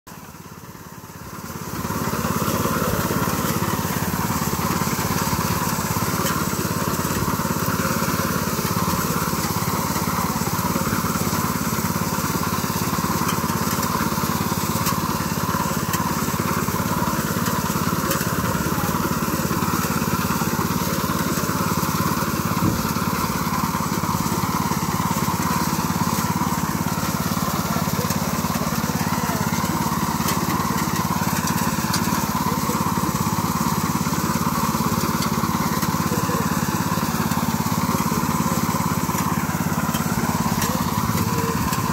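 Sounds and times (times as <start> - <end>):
small engine running under load: 0.1 - 41.9.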